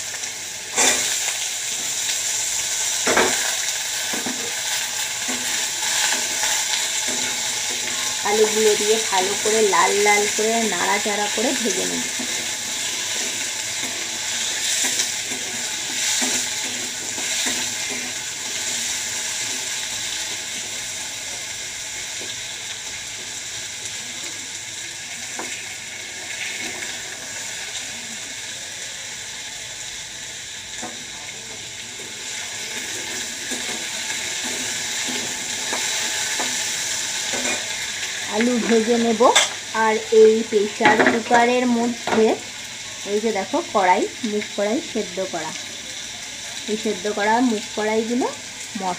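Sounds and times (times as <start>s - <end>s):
potatoes sizzling in oil: 0.0s - 48.9s.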